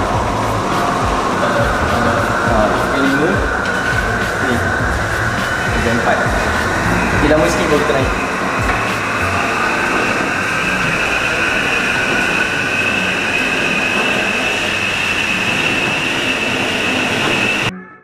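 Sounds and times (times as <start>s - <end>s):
motor whine rising in pitch: 0.0s - 17.7s
treadmill belt rumble: 0.0s - 17.7s.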